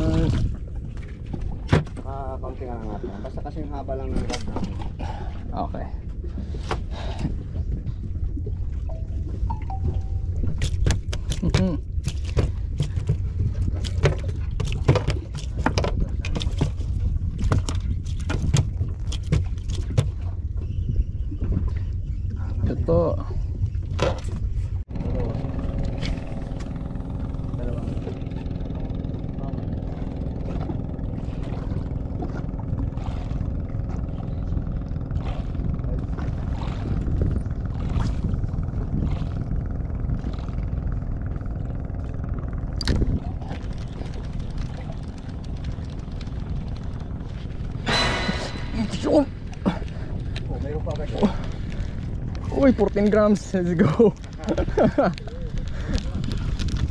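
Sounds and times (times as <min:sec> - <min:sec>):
boat engine running: 0:00.0 - 0:56.9
steady low rumble: 0:00.0 - 0:56.9.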